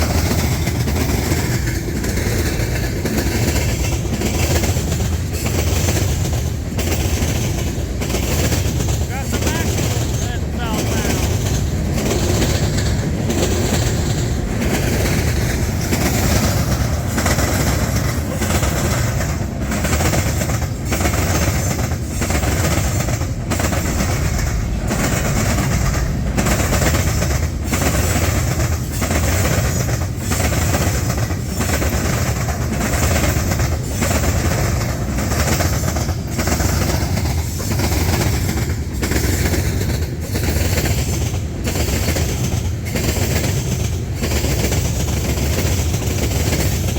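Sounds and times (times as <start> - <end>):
freight train rumble: 0.0 - 46.9
train wheels clacking: 0.0 - 46.9.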